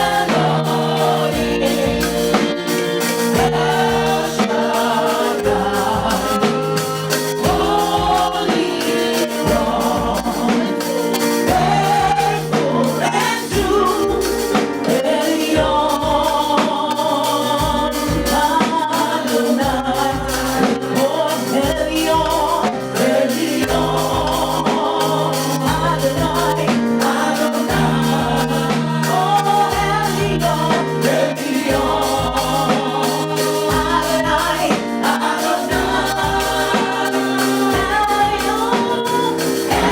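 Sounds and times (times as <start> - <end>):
band with bass and beat: 0.0 - 39.9
choir singing: 0.0 - 39.9.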